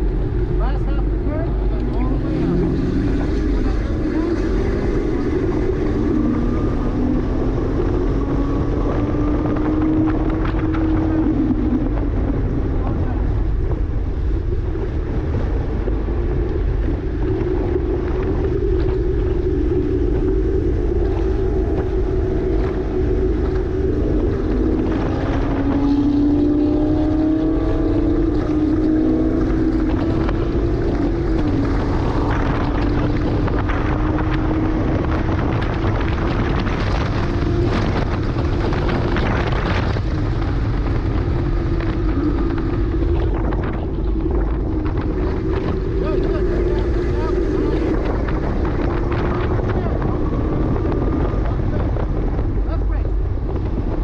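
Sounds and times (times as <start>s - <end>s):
car engine revving on track: 0.0s - 54.0s
wind buffeting microphone: 0.0s - 54.0s.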